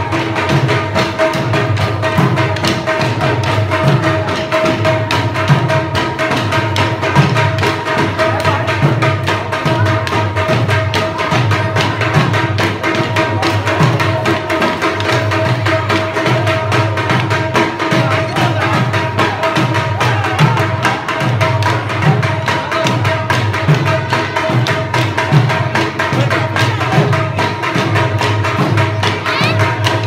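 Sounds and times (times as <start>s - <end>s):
drum beating steady rhythm: 0.0s - 30.0s.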